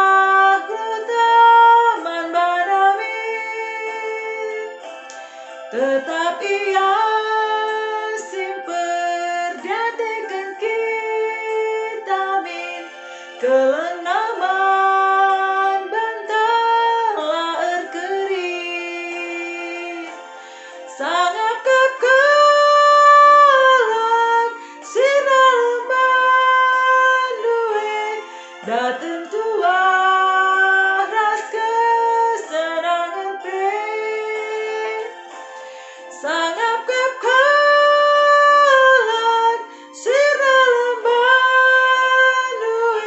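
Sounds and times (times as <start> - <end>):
woman singing a hymn: 0.0 - 4.8, 5.7 - 20.2, 20.9 - 35.2, 36.1 - 43.0.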